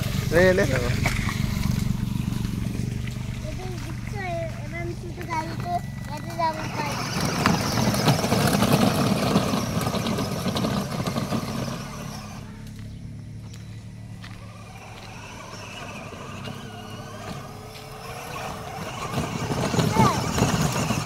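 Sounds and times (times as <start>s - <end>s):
electric toy car motor hum: 0.0s - 12.8s, 14.0s - 21.0s.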